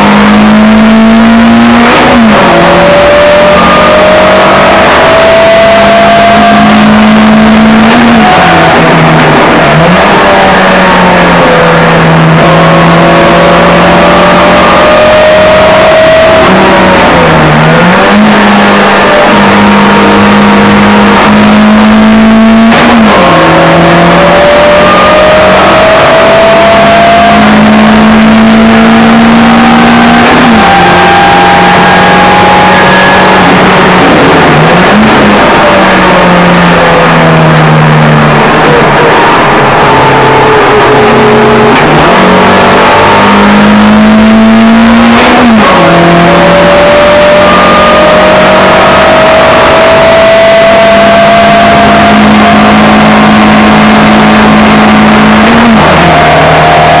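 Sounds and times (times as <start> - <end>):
car engine at racing revs: 0.0 - 57.0.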